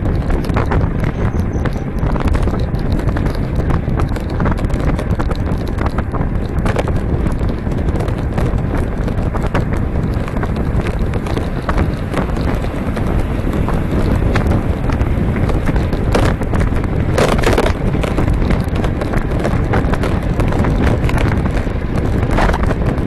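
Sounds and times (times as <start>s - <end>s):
small clicks and rattles: 0.0s - 23.0s
wind buffeting microphone: 0.0s - 23.0s.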